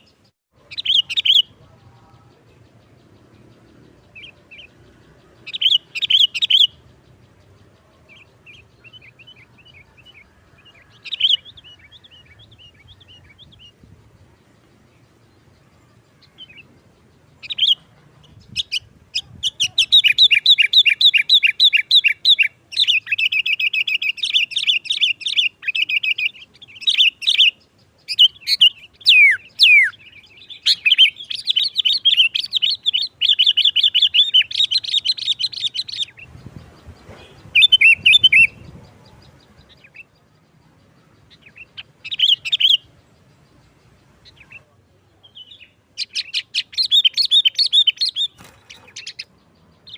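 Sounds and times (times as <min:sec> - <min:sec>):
bulbul chattering song: 0:00.0 - 0:49.9.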